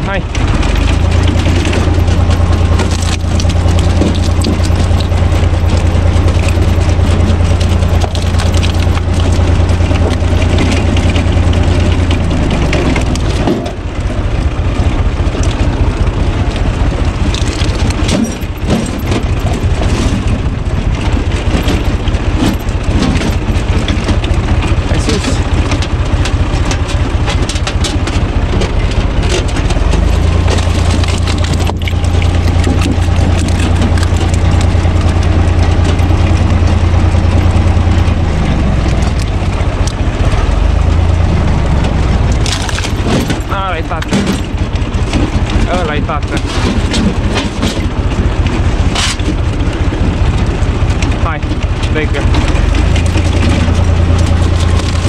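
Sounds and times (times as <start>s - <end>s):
tractor diesel engine running: 0.0s - 55.0s
wood splitting cracks: 0.3s - 55.0s.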